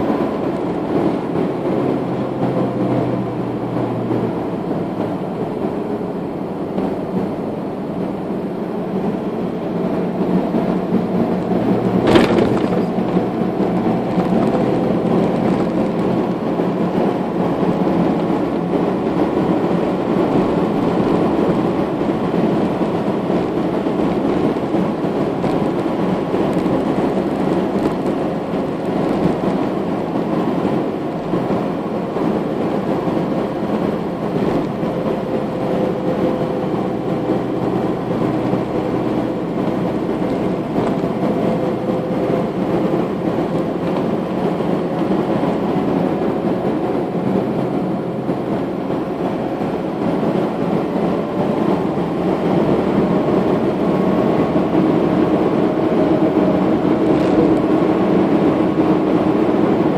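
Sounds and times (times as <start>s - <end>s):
car driving on road: 0.0s - 59.9s.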